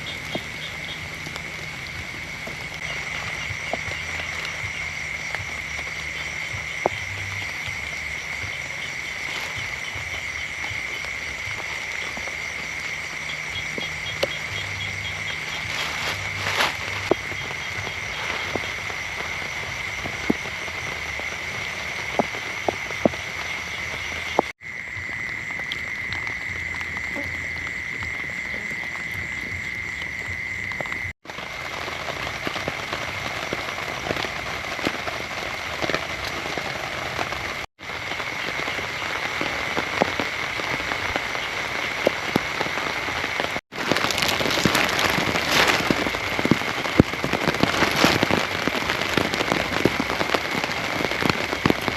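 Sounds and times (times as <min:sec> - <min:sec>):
chorus of frogs calling: 0:00.0 - 0:51.9
rain with drop ticks: 0:00.0 - 0:51.9.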